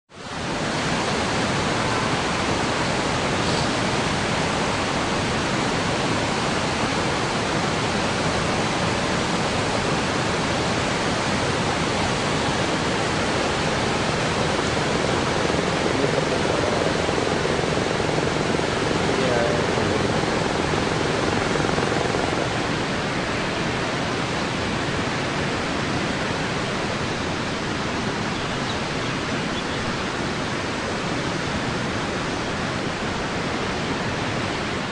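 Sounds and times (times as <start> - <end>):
river rushing in flood: 0.1 - 34.9.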